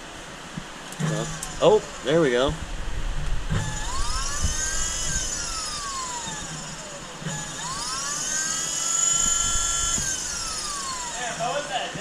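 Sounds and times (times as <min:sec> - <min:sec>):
electric pump motor whining: 0:00.3 - 0:12.0.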